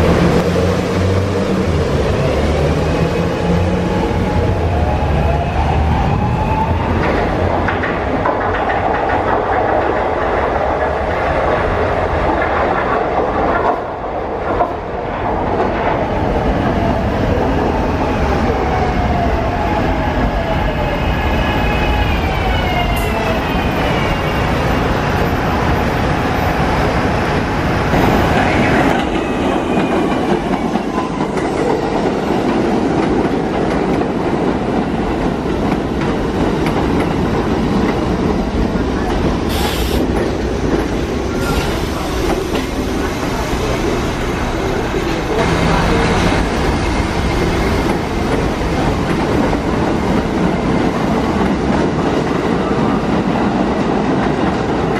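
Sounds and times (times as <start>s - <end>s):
subway train running past: 0.0s - 54.9s.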